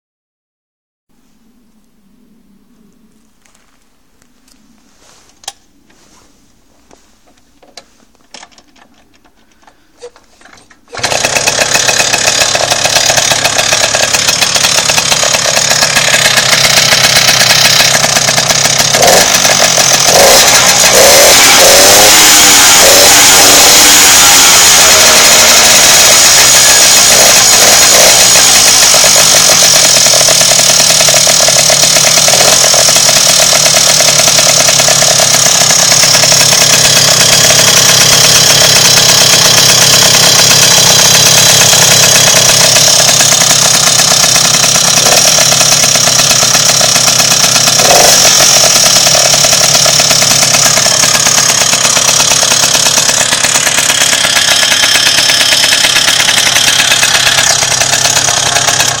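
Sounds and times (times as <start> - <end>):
moped engine idling: 9.4 - 59.0.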